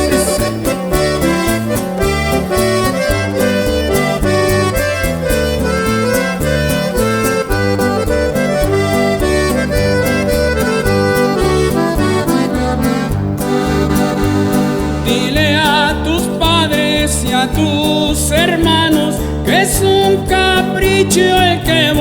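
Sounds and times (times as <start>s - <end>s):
accordion melody: 0.0s - 22.0s
bass line: 0.0s - 22.0s
steady beat: 0.0s - 22.0s.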